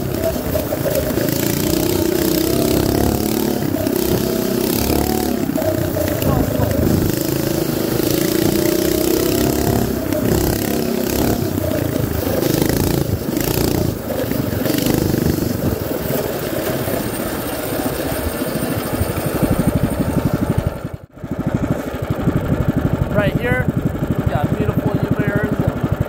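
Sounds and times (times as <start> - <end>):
mini bike engine revving: 0.0 - 26.0.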